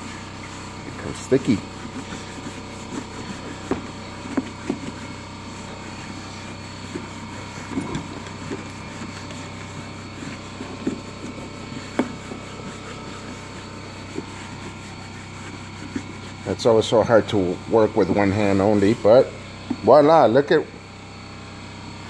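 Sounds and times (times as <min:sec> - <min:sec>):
cloth rag scrubbing leather: 0:00.0 - 0:20.3
background hum: 0:00.0 - 0:22.0.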